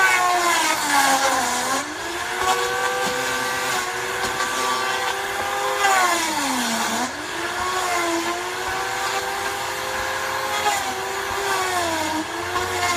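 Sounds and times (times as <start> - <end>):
paint removal tool motor whine: 0.0 - 12.9.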